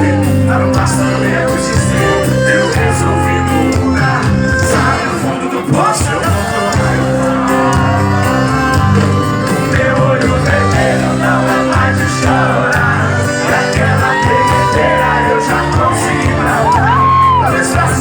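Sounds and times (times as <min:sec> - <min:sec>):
sustained bass notes: 0:00.0 - 0:05.5, 0:06.1 - 0:18.0
person singing: 0:00.0 - 0:18.0
steady drum beat: 0:00.0 - 0:18.0.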